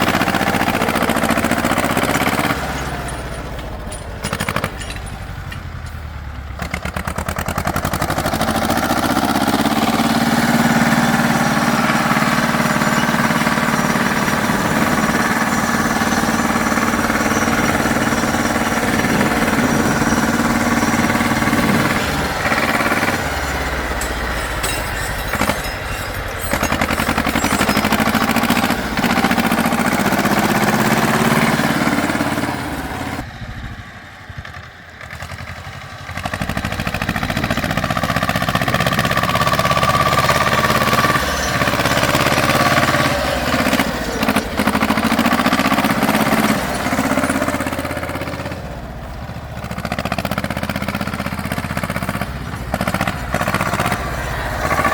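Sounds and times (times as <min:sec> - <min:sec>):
tractor engines revving: 0:00.0 - 0:54.9.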